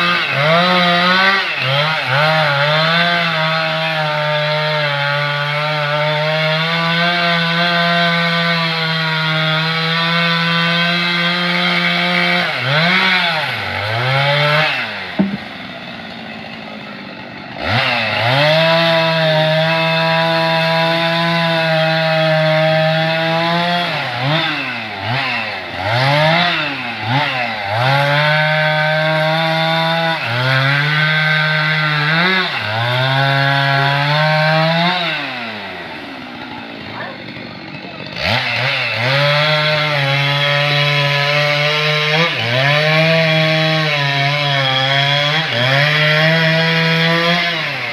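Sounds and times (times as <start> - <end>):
chainsaw cutting tree trunk: 0.0 - 47.9.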